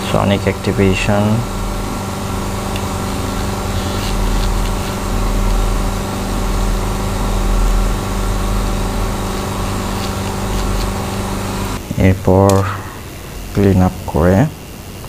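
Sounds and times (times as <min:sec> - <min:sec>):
dental equipment humming: 0:00.0 - 0:15.0.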